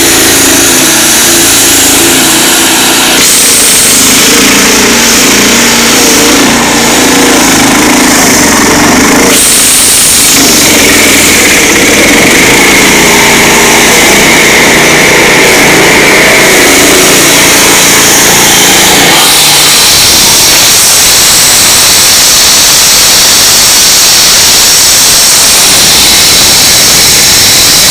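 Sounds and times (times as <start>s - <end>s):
heavy machinery engines running: 0.0s - 27.9s.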